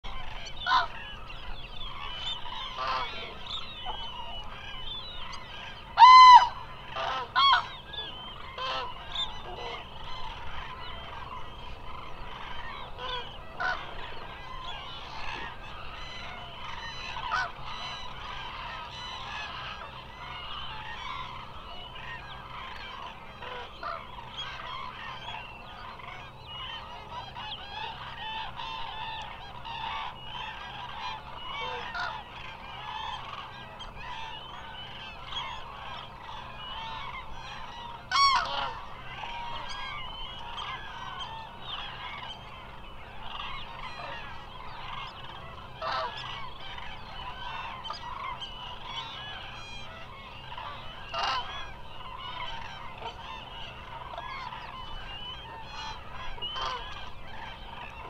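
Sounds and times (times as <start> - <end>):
cranes trumpeting: 0.1 - 58.0.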